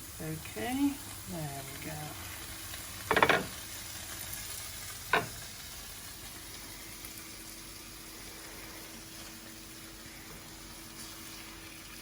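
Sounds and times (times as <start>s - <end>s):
faint steady hum: 0.0s - 12.0s
fish sizzling in a pan: 0.0s - 12.0s.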